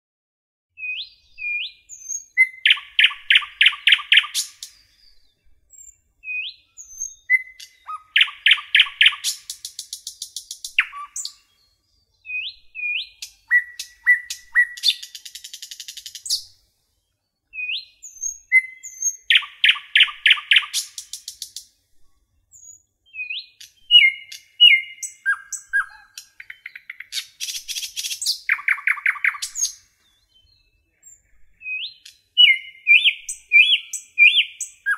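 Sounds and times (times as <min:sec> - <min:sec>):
songbird singing whistles and trill: 0:00.8 - 0:21.7, 0:22.5 - 0:34.9.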